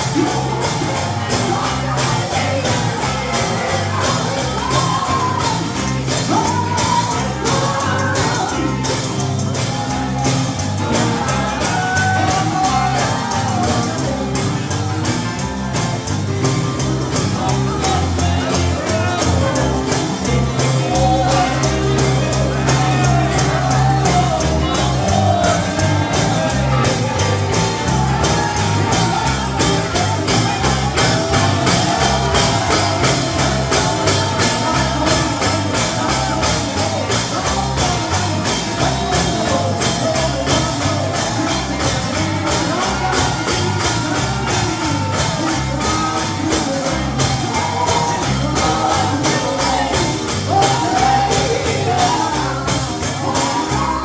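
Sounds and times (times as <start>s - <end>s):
live gospel band with singer: 0.0s - 54.0s
voices calling out: 0.0s - 54.0s.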